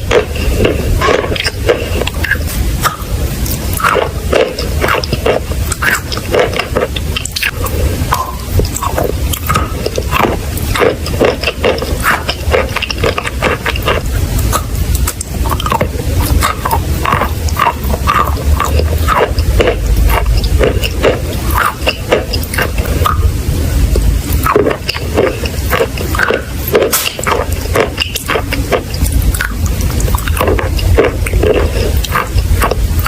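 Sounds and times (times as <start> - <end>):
crunching and crackling: 0.0 - 33.0
low rumble: 0.0 - 33.0.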